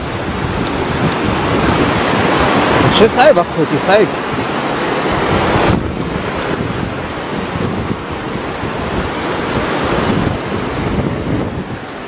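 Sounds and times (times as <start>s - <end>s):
floodwater rushing: 0.0s - 12.0s
wind buffeting microphone: 0.0s - 12.0s.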